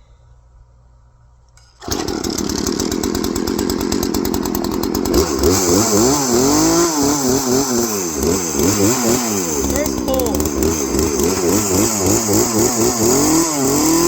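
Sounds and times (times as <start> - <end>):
chainsaw starter pull: 1.7 - 14.0
chainsaw engine revving: 1.8 - 14.0.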